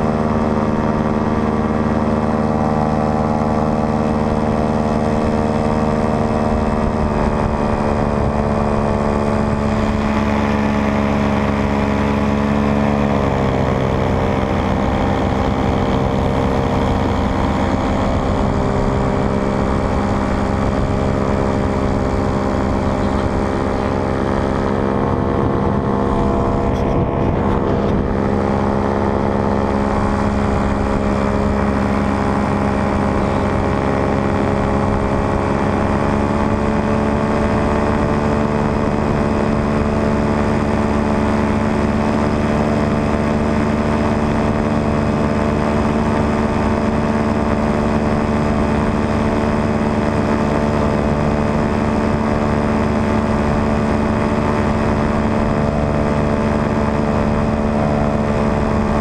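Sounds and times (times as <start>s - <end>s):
paramotor engine and propeller drone: 0.0s - 59.0s.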